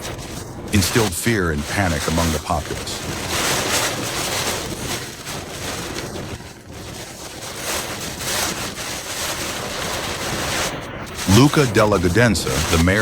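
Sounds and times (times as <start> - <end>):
floodwater rushing: 0.0 - 6.4, 7.0 - 13.0.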